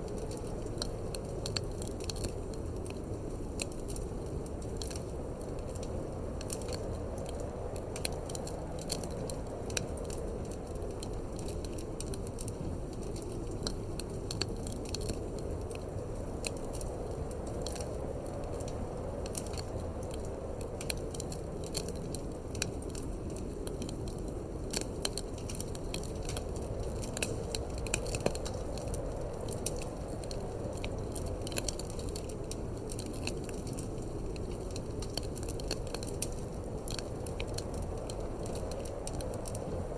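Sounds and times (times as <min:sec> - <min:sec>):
low rush of wind: 0:00.0 - 0:39.9
wood fire crackling and popping: 0:00.0 - 0:39.9.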